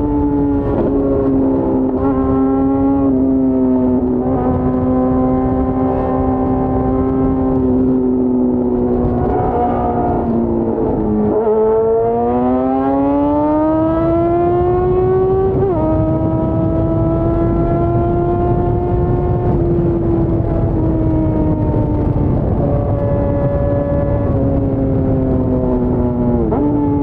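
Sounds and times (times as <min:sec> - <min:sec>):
motorcycle engine accelerating: 0:00.0 - 0:27.0
wind rushing: 0:00.2 - 0:27.0.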